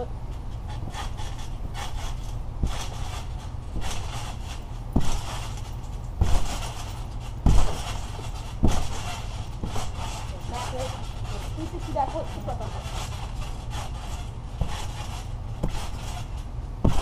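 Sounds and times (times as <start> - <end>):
steady low rumble: 0.0 - 17.0
thumps on trampoline mat: 0.7 - 17.0.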